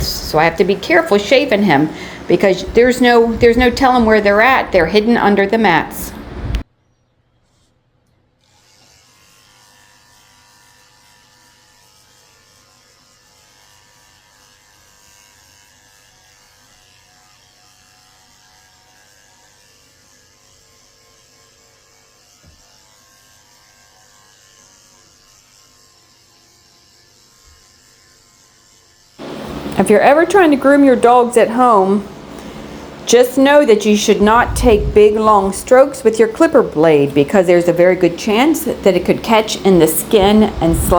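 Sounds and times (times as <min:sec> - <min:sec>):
electric clippers running: 0:00.0 - 0:05.2, 0:08.4 - 0:40.9.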